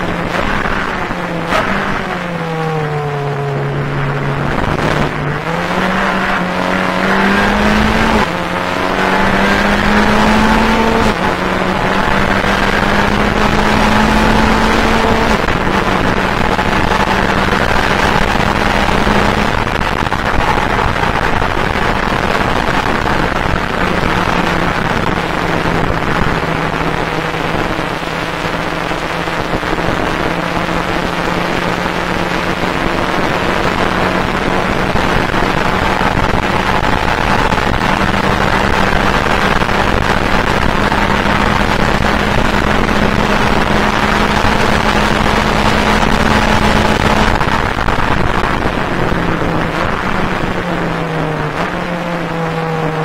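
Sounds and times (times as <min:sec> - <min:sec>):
race car engine: 0:00.0 - 0:53.0
road and wind noise: 0:00.0 - 0:53.0.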